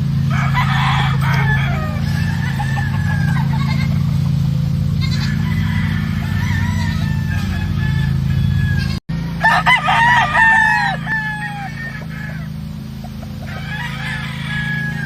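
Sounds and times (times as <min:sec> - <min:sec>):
roosters crowing: 0:00.0 - 0:15.0
steady low hum: 0:00.0 - 0:15.0.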